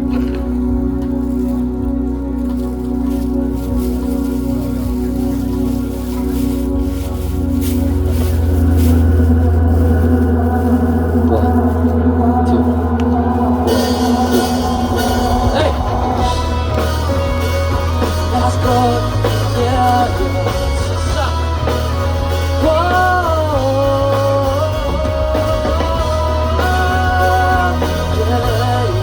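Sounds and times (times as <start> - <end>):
gliding melody line: 0.0 - 29.0
pop-rock band music: 0.0 - 29.0
steady bass: 0.0 - 29.0.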